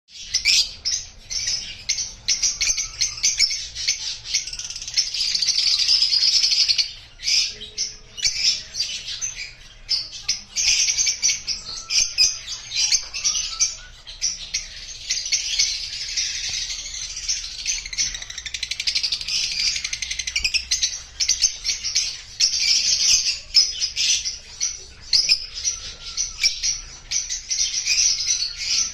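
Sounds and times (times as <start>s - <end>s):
lovebirds chirping: 0.1s - 28.9s.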